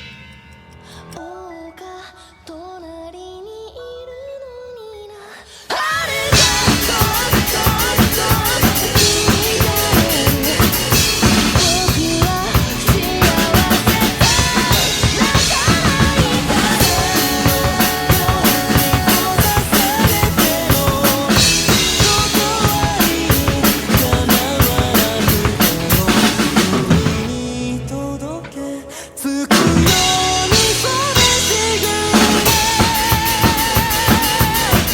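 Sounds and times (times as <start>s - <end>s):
rock drum kit: 5.8s - 34.9s
instrumental backing music: 6.2s - 34.9s.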